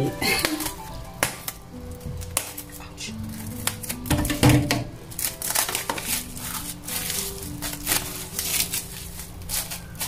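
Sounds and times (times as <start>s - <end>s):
cling film crinkling: 0.0s - 10.0s
faint background music: 0.0s - 10.0s.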